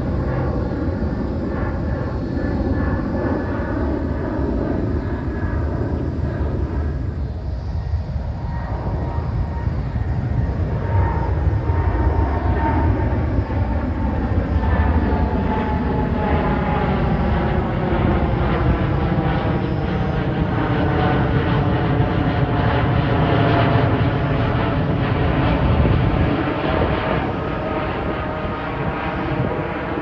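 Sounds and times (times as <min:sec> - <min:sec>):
jet plane passing overhead: 0:00.0 - 0:30.0.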